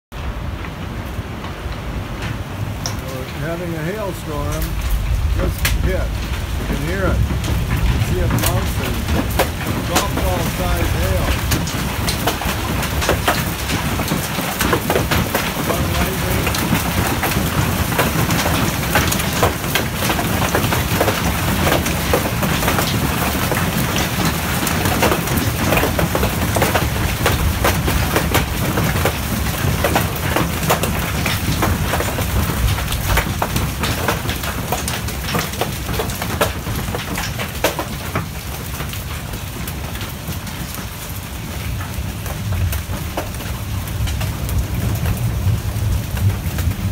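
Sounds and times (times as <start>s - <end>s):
heavy rain hiss: 0.2s - 46.9s
hail clattering: 1.3s - 46.9s.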